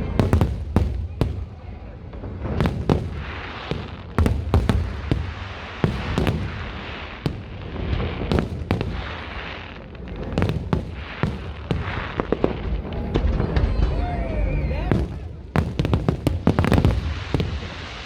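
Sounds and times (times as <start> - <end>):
fireworks bangs and booms: 0.0 - 18.0
fireworks crackling and hiss: 0.0 - 18.0.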